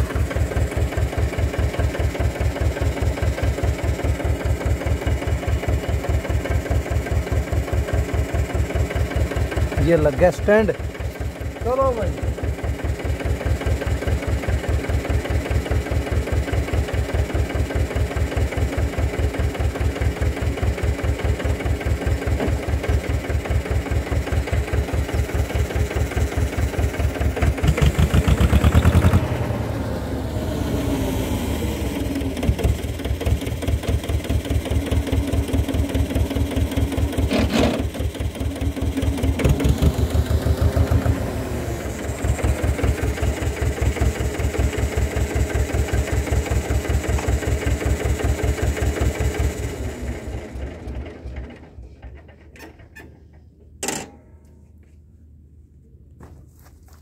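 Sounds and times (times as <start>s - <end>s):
diesel tractor engine running: 0.0s - 53.8s.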